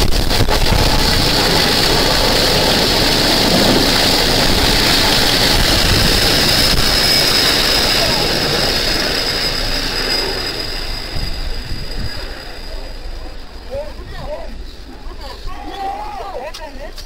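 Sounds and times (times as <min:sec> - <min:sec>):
helicopter turbine whine: 0:00.0 - 0:16.3.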